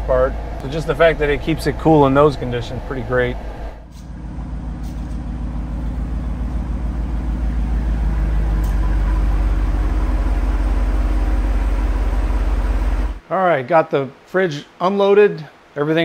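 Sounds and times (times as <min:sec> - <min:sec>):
car engine and road rumble: 0:00.0 - 0:13.2.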